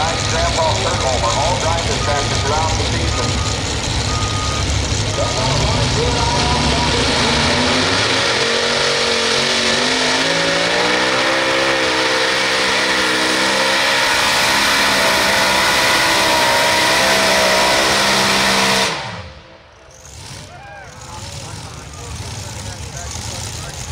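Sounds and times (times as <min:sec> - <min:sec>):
tractor engines at full throttle: 0:00.0 - 0:23.9.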